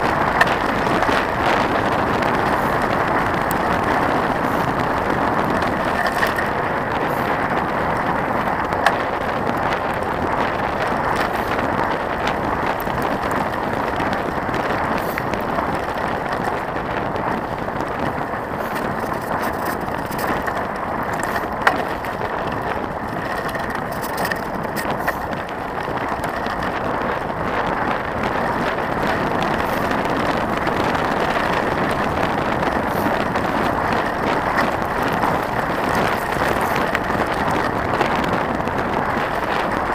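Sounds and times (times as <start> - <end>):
bike rattling: 0.0 - 39.9
bike tyres crunching on gravel: 0.0 - 39.9.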